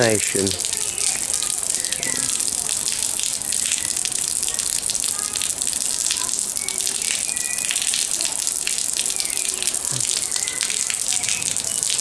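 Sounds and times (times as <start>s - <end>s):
water dripping into puddle: 0.0s - 12.0s.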